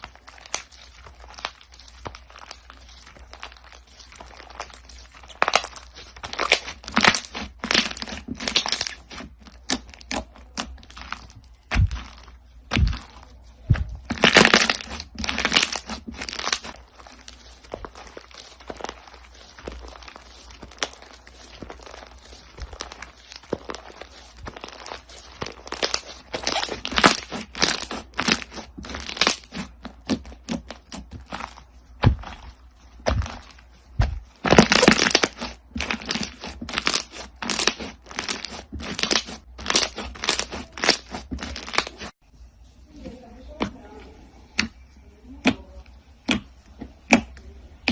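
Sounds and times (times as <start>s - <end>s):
crunchy slime crackling: 0.0s - 42.2s, 43.3s - 47.9s.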